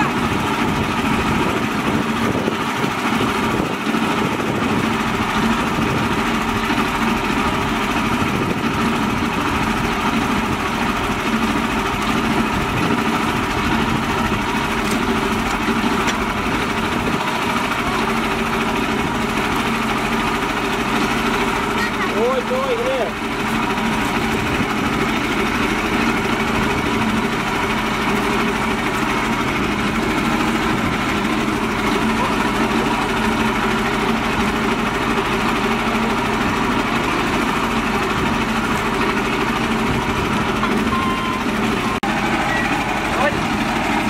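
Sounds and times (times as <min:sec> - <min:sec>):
small tractor engine idling: 0:00.0 - 0:44.0.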